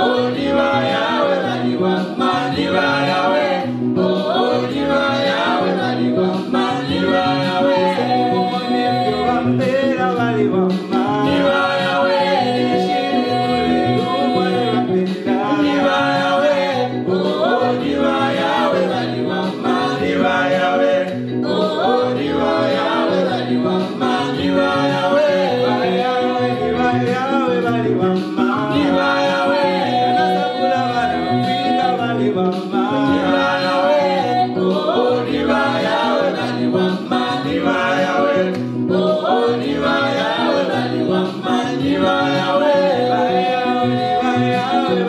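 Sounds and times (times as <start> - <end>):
electronic keyboard: 0.0 - 45.0
group singing gospel in harmony: 0.0 - 45.0
repeating bass line: 0.0 - 45.0.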